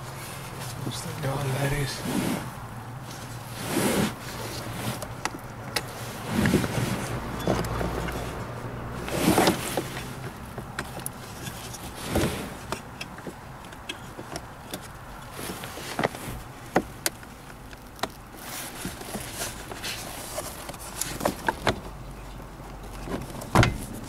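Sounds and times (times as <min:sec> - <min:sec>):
rustling bumps: 0:00.0 - 0:24.0.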